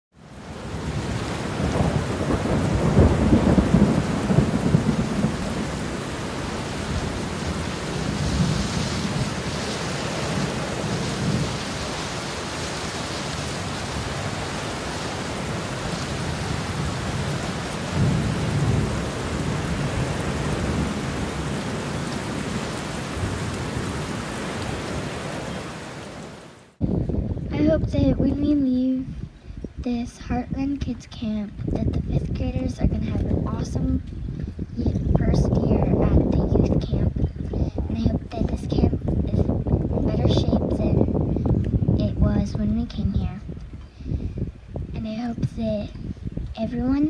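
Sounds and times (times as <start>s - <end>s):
heavy rain falling: 0.2s - 28.3s, 30.8s - 47.0s
thunder rumbling: 0.2s - 30.6s, 31.6s - 47.0s.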